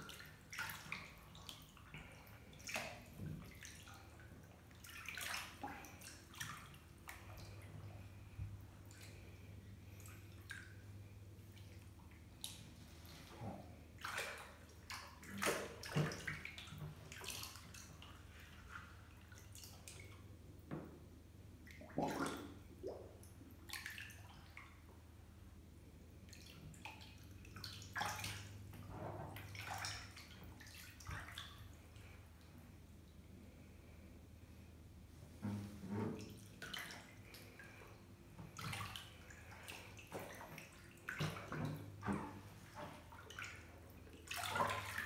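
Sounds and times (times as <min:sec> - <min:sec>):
bathwater sloshing and splashing: 0:00.0 - 0:45.0.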